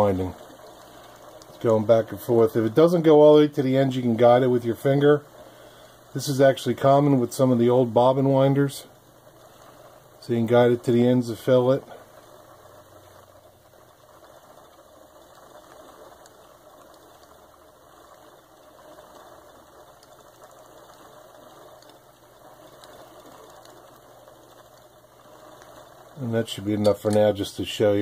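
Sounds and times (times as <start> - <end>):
sewing machine winding bobbin: 0.0 - 28.0.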